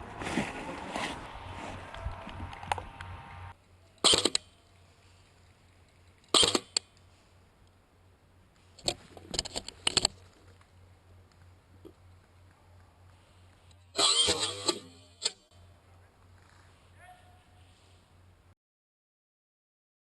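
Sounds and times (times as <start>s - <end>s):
rustling: 0.0s - 2.8s, 4.0s - 7.8s, 8.5s - 18.2s.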